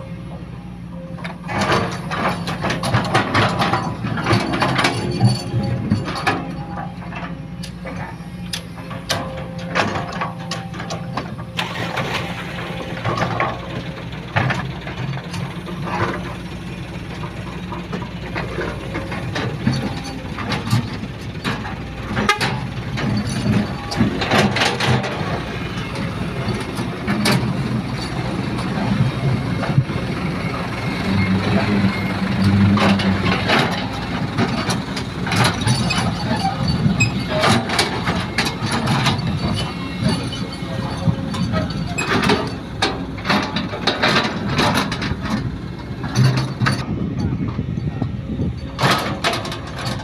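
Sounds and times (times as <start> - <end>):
excavator diesel engine running: 0.0 - 50.0
clanks and knocks: 1.2 - 47.7, 48.4 - 50.0.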